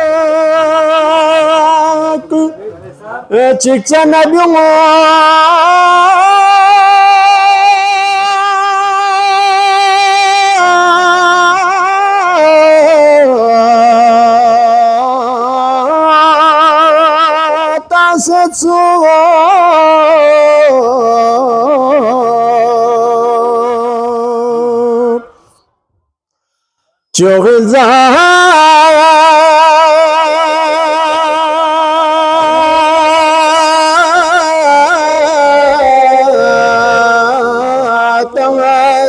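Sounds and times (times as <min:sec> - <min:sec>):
man singing unaccompanied: 0:00.0 - 0:02.7, 0:03.3 - 0:25.3, 0:27.1 - 0:39.0.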